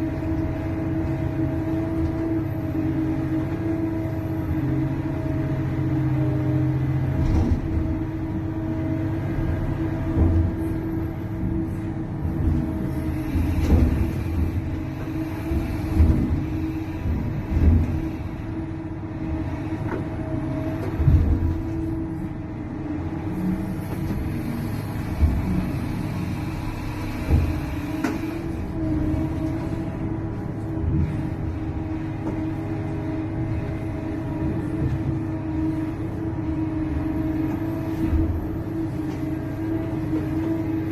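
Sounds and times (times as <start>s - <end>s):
excavator engine humming: 0.0s - 40.9s.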